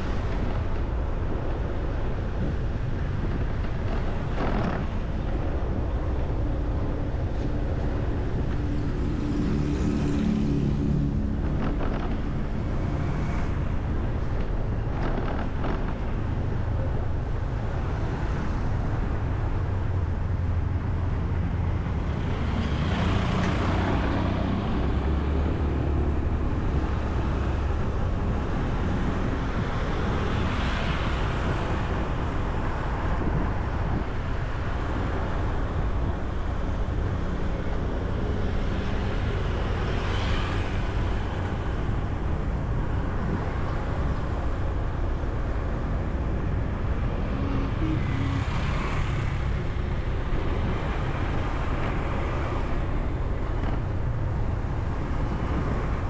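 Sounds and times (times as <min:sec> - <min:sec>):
traffic rumble: 0:00.0 - 0:56.0
vehicles passing close by: 0:00.0 - 0:56.0.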